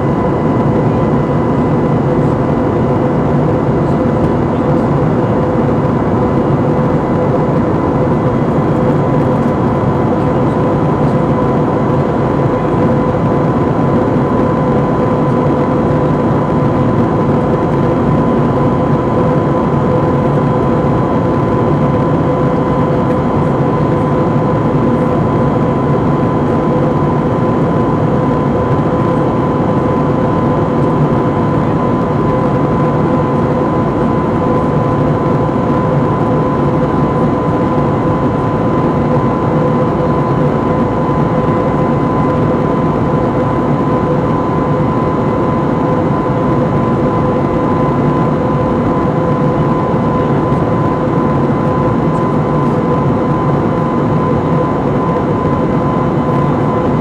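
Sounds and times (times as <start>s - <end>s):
airplane cabin engine drone: 0.0s - 57.0s
thin steady whine: 0.0s - 57.0s.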